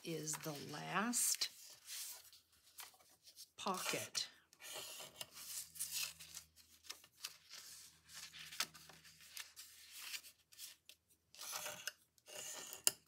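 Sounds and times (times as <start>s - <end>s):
paper crinkling and rustling: 0.2s - 11.9s
bone folder scraping paper: 0.3s - 4.0s, 4.6s - 10.8s, 11.4s - 12.9s.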